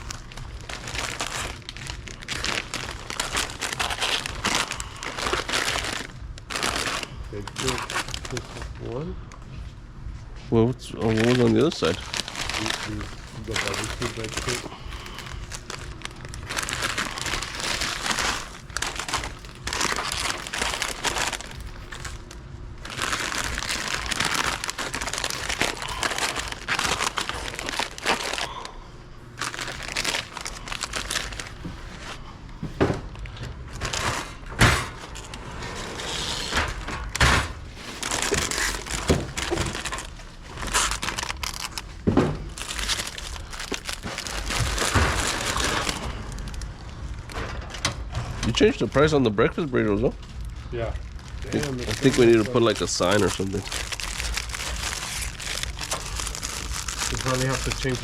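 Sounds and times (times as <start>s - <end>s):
plastic snack bags crinkling: 0.0s - 9.1s, 10.8s - 32.3s, 33.1s - 58.0s.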